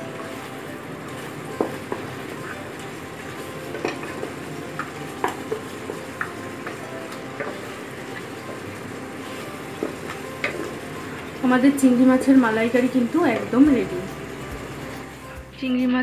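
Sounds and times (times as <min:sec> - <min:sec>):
curry sizzling in a pot: 0:00.0 - 0:15.5.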